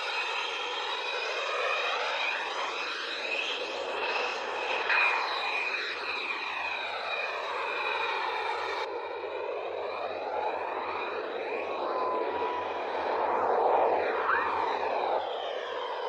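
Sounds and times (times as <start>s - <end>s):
fighter jet engines taxiing: 0.0s - 16.0s.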